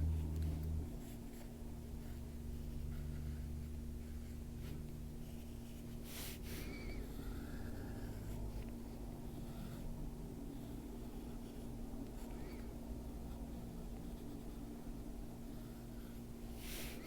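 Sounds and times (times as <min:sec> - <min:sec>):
low steady hum: 0:00.0 - 0:17.0
pencil scratching on paper: 0:00.5 - 0:17.0.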